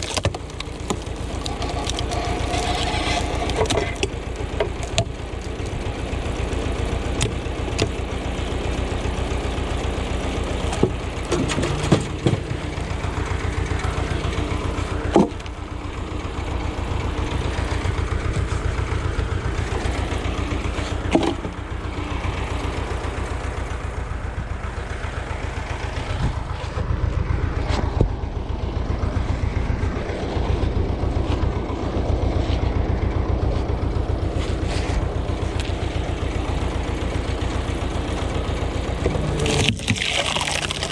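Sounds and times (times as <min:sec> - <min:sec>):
tractor engine chugging: 0:00.0 - 0:40.9.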